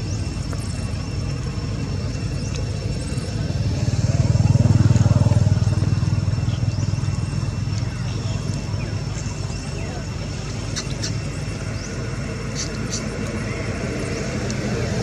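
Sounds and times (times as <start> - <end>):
passing vehicle engine rumble: 0.0 - 15.0.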